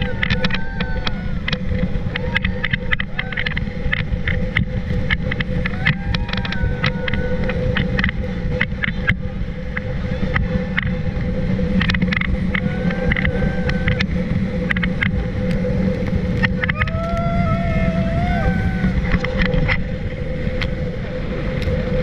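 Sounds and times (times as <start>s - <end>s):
motorboat engine running: 0.0s - 22.0s
wind rumble on microphone: 0.0s - 22.0s.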